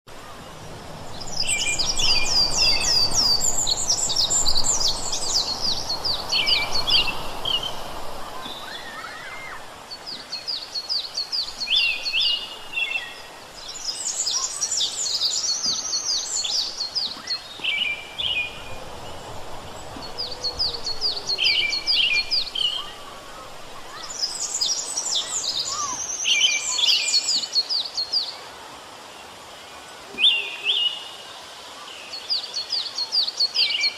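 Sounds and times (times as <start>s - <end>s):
faint background hiss: 0.1s - 33.9s
songbird trilling and chirping: 1.0s - 28.4s.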